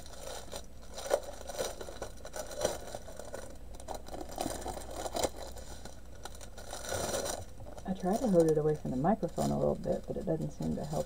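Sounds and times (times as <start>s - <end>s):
plastic packaging crinkling: 0.0s - 11.0s
sharp plastic crackles: 0.0s - 11.0s.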